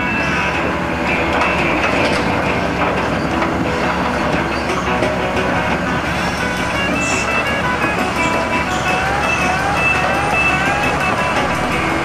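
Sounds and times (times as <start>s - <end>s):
background music: 0.0s - 12.0s
construction machine engine: 0.0s - 12.0s
steel tracks clanking: 0.0s - 12.0s.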